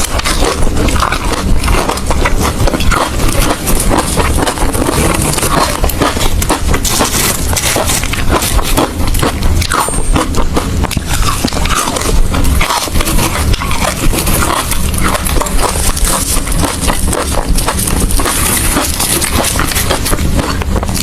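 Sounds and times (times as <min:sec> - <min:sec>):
ice crunching being chewed: 0:00.0 - 0:21.0.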